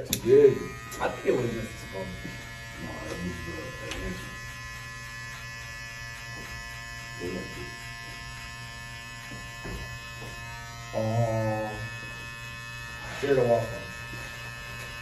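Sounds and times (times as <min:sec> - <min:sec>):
hair clippers buzzing: 0:00.0 - 0:15.0.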